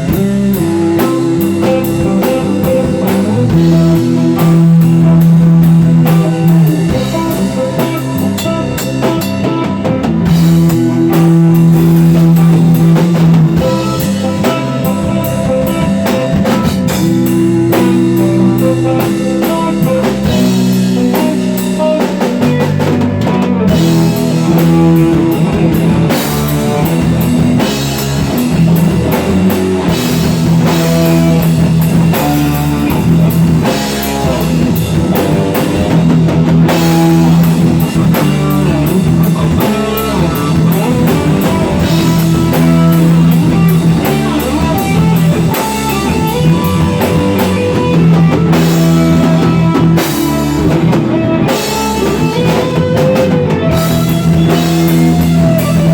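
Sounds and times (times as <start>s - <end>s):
drum kit beat: 0.0s - 55.9s
guitar: 0.0s - 55.9s.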